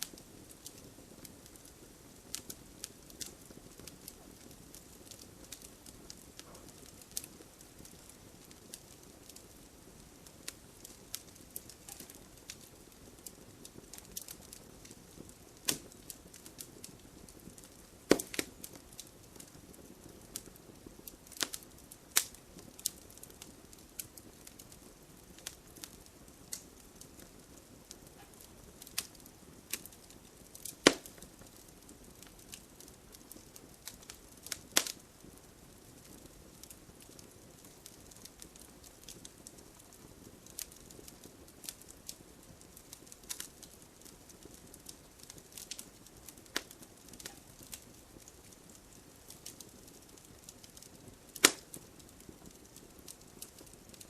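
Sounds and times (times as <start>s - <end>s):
fire crackling and popping: 0.0s - 54.0s
fireplace fire hissing: 0.0s - 54.0s.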